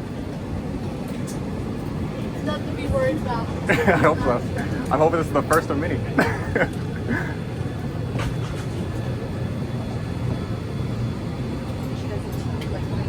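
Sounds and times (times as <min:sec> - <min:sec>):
airliner low drone: 0:00.0 - 0:13.0.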